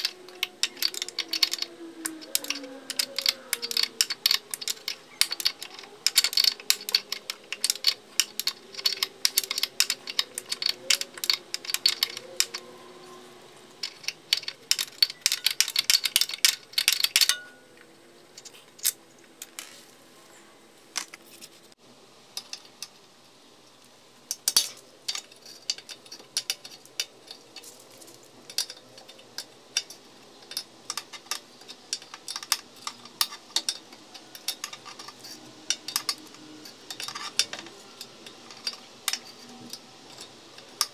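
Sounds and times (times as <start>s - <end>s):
ratchet wrench clicking: 0.0s - 12.7s, 13.8s - 17.5s, 24.3s - 40.9s
tools clinking: 0.0s - 19.9s, 24.3s - 40.9s.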